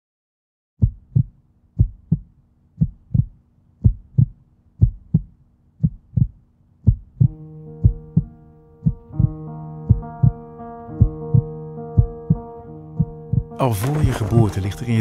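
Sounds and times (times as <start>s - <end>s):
heartbeat thumps: 0.8s - 14.4s.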